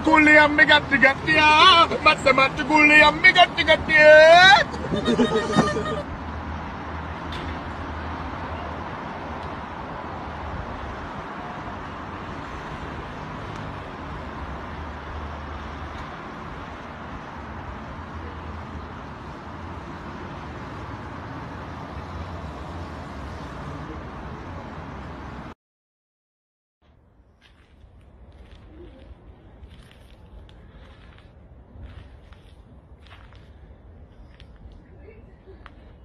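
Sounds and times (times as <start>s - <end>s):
road traffic noise: 0.0s - 25.6s, 26.9s - 36.0s.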